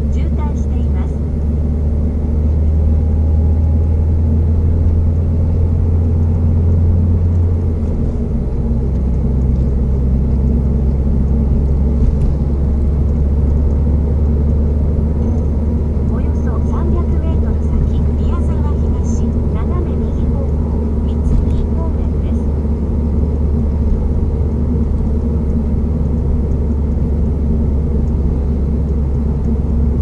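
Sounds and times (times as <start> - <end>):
car engine drone: 0.0 - 30.0
road noise: 0.0 - 30.0.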